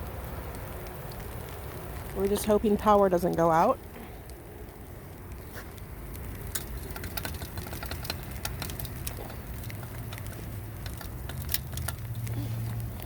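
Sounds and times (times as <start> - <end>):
ice pellets ticking on ice: 0.0 - 13.0.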